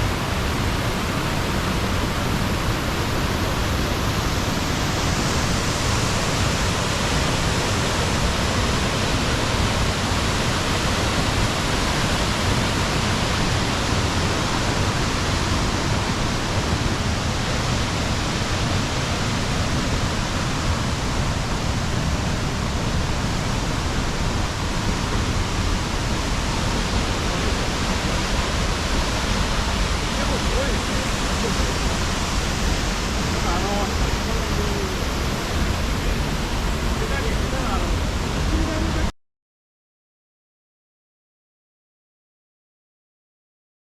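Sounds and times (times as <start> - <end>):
waterfall rushing: 0.0 - 39.1.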